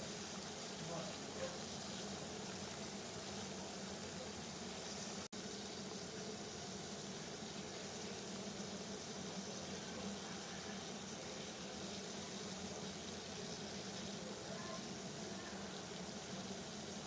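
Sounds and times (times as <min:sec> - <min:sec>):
water boiling: 0:00.0 - 0:17.0.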